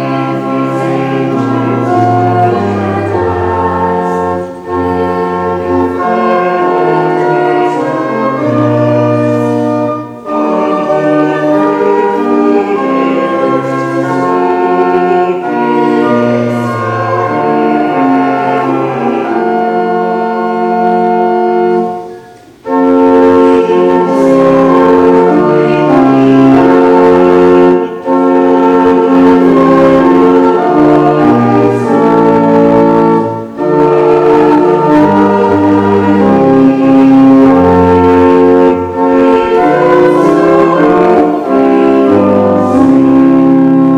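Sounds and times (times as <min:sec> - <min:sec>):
church organ playing chords: 0:00.0 - 0:43.9.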